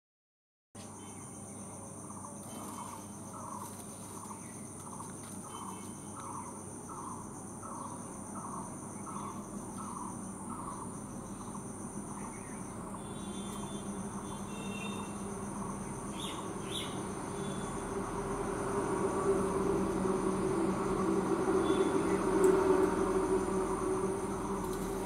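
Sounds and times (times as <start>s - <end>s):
high-pitched insect chorus: 0.8s - 25.0s.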